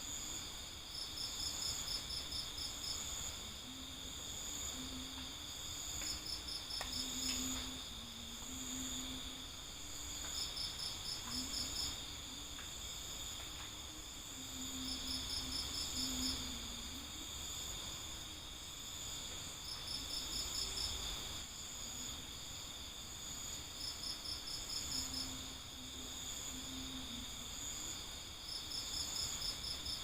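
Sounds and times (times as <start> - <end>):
cricket chirping in pulses: 0.0 - 30.0
cricket trilling: 0.0 - 30.0.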